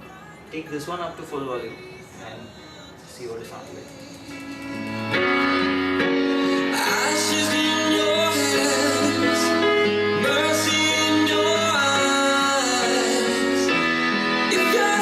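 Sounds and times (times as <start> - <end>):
song through portable speaker: 0.0 - 15.0.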